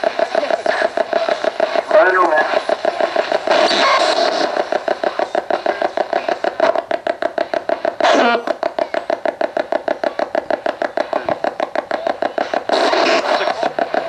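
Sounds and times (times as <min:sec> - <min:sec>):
radio static sweeping: 0:00.0 - 0:08.5, 0:10.7 - 0:14.0.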